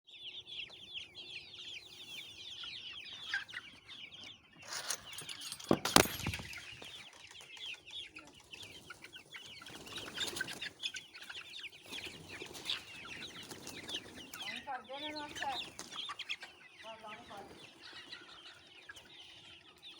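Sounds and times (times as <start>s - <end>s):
chickens clucking: 0.1s - 19.9s.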